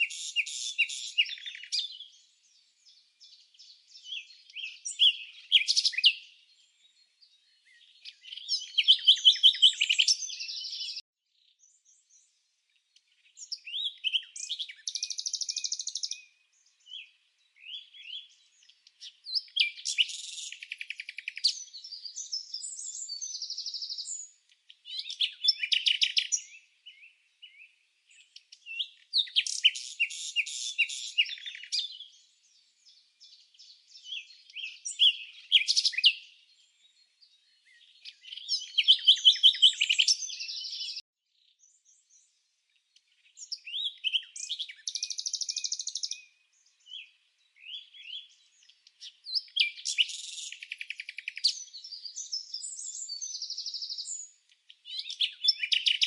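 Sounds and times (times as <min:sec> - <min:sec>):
songbird trills and chirps: 0:00.0 - 0:56.0.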